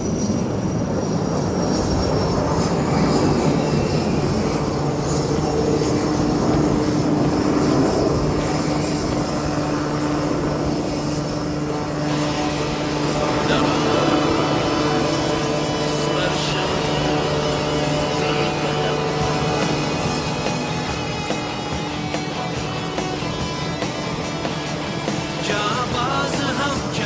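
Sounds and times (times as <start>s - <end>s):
jet engines flying overhead: 0.0s - 27.0s.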